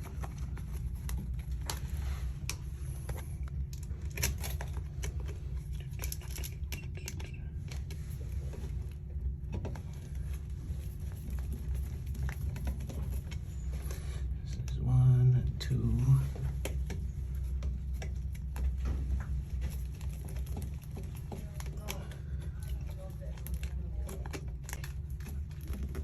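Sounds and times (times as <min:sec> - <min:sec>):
wires clicking and scraping: 0:00.0 - 0:14.9, 0:15.9 - 0:26.0
steady low rumble: 0:00.0 - 0:26.0.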